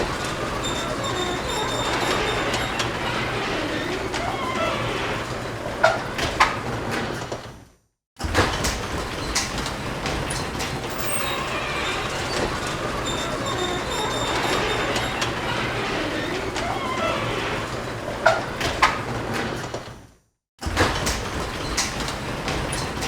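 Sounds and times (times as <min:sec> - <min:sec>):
garage door rattling on tracks: 0:00.0 - 0:07.5, 0:08.2 - 0:19.9.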